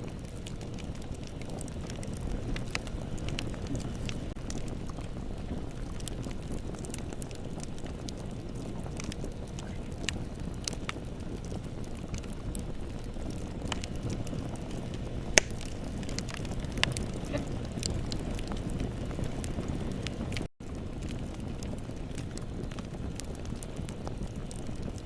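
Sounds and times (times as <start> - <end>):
bonfire rumble: 0.0 - 25.0
fire crackles and pops: 0.0 - 25.0.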